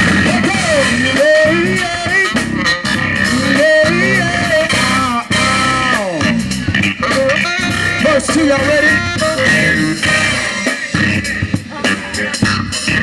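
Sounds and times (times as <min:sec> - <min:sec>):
bass line: 0:00.0 - 0:13.0
electric guitar lines: 0:00.0 - 0:13.0.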